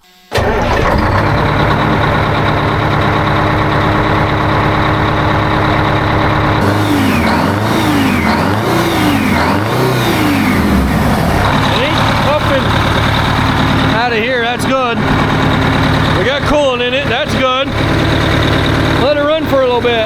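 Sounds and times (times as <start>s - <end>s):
truck diesel engine idling and revving: 0.4s - 20.0s.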